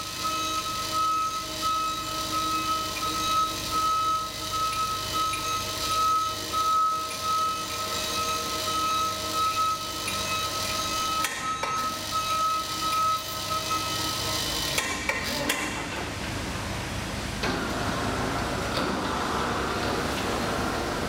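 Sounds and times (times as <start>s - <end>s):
electric hoist whining: 0.0s - 21.0s
machinery hum: 0.0s - 21.0s.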